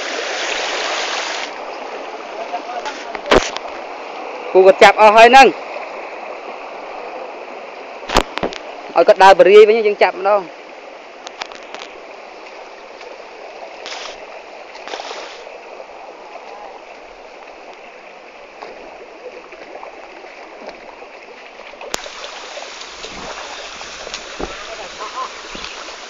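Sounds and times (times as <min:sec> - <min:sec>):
mountain stream running: 0:00.0 - 0:26.0
water swishes: 0:00.0 - 0:26.0.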